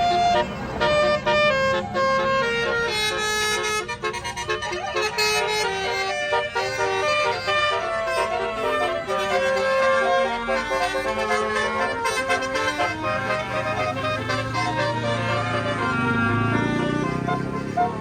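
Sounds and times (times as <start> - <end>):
bus horn playing a melody: 0.0 - 18.0.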